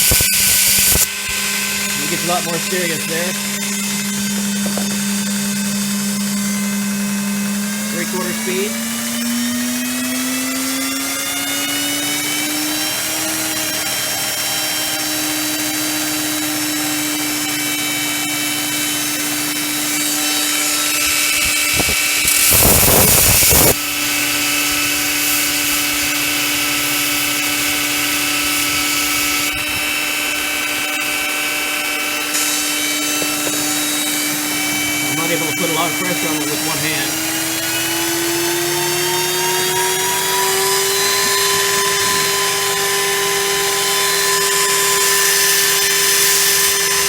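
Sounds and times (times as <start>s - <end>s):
belt grinder whine: 0.0s - 47.0s
workpiece grinding on belt: 0.0s - 47.0s.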